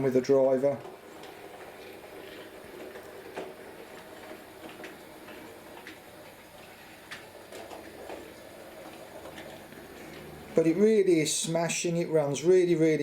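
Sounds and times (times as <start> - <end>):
faint model train motor whirr: 0.0 - 13.0
wheels clicking over rail joints: 0.0 - 13.0.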